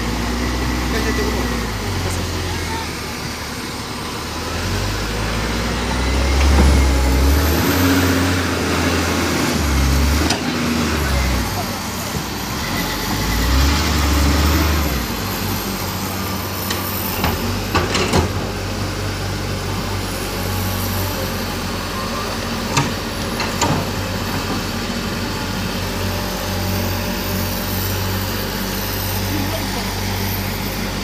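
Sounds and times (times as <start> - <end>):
diesel engines running: 0.0 - 31.0.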